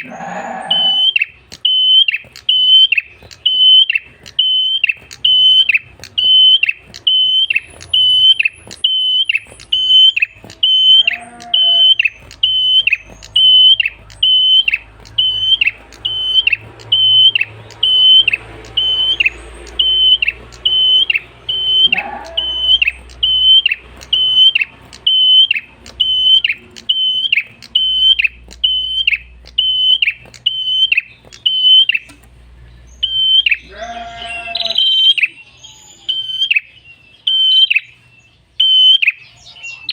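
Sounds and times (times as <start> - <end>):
bird singing high clear notes: 0.0 - 39.9.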